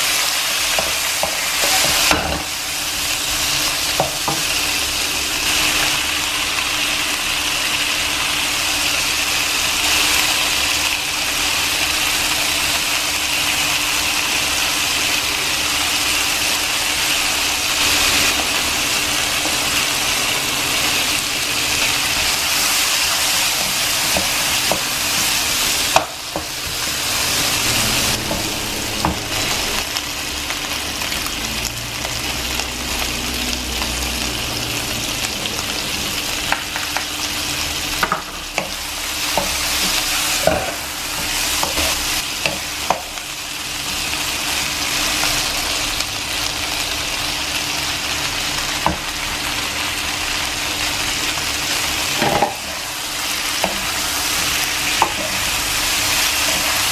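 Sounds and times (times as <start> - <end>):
food sizzling in oil: 0.0 - 56.9.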